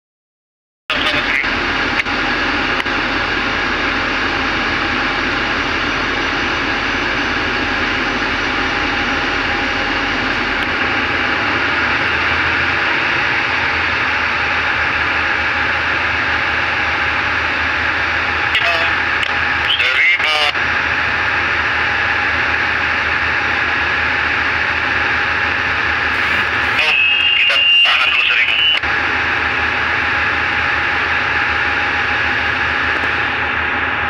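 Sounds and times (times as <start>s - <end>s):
tugboat engine droning: 0.9s - 34.0s.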